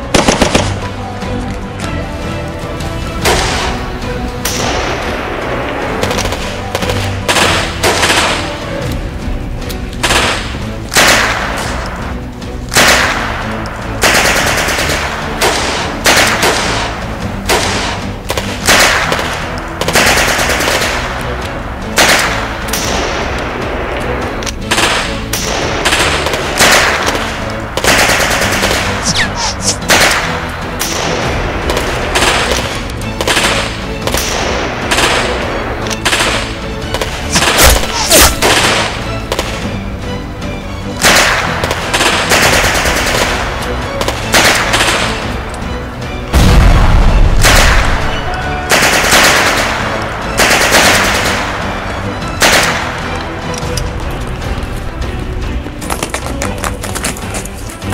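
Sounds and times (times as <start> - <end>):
gunshots and bursts: 0.0 - 1.1, 3.1 - 9.0, 9.6 - 39.8, 40.8 - 54.6.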